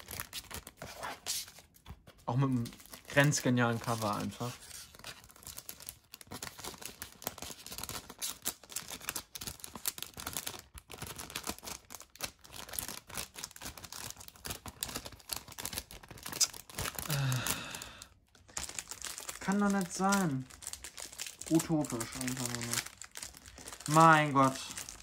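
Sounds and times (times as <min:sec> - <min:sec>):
plastic film crinkling: 0:00.0 - 0:25.0.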